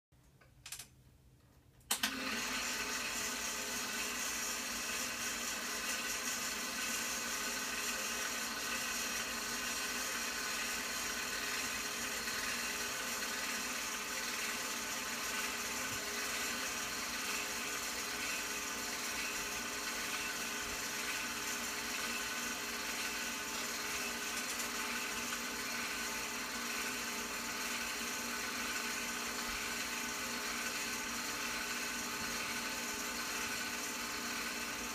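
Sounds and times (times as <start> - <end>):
film projector motor whir: 1.9 - 34.9.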